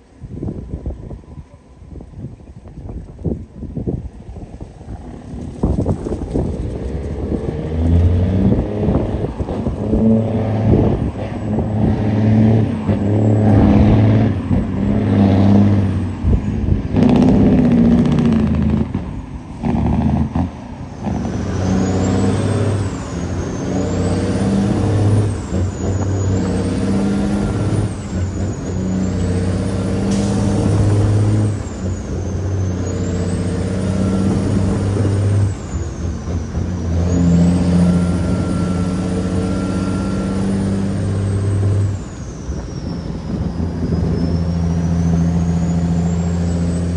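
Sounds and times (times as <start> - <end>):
deep diesel engine drone: 4.4 - 46.9.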